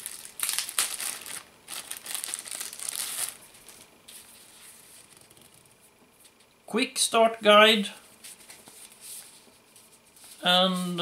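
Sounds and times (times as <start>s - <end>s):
paper rustling and crinkling: 0.0s - 6.5s, 8.2s - 11.0s.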